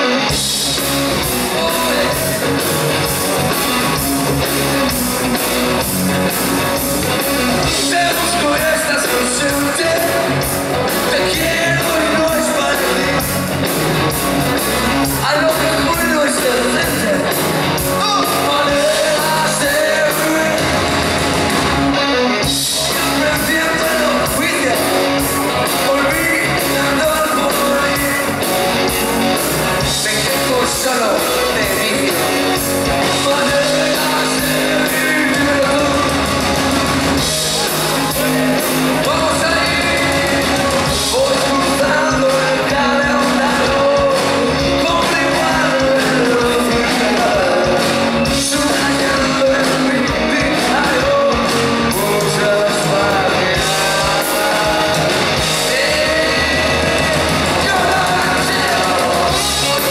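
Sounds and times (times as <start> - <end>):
man singing: 0.0 - 3.1, 7.3 - 13.7, 15.0 - 21.1, 22.4 - 59.9
drum kit: 0.0 - 59.9
electric guitars: 0.0 - 59.9.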